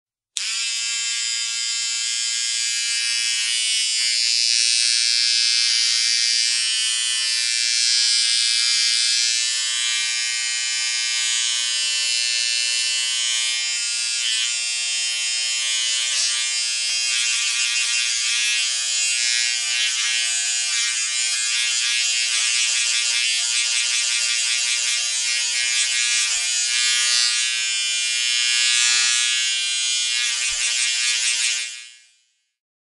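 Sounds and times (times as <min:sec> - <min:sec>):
electric shaver buzzing: 0:00.4 - 0:32.4.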